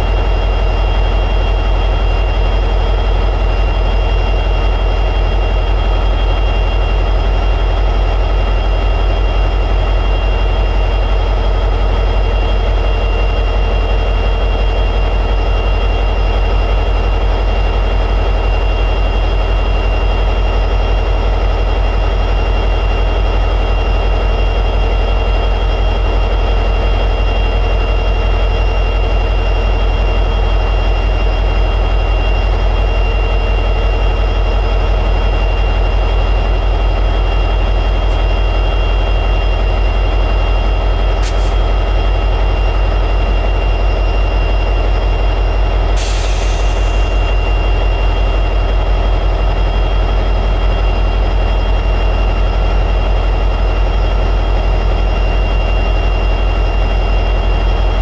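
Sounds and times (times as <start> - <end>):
locomotive diesel engine idling: 0.0 - 58.0.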